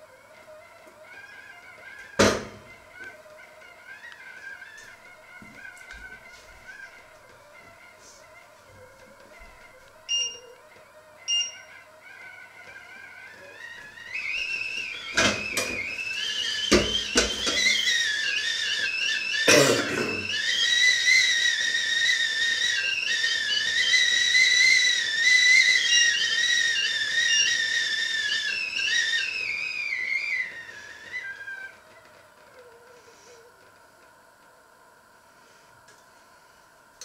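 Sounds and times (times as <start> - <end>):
kettle whistling: 0.0 - 37.0.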